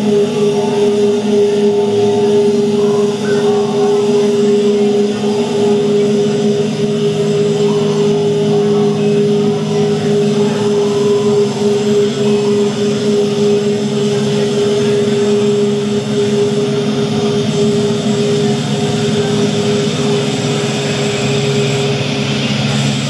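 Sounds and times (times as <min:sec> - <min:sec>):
electronic drone music: 0:00.0 - 0:23.0.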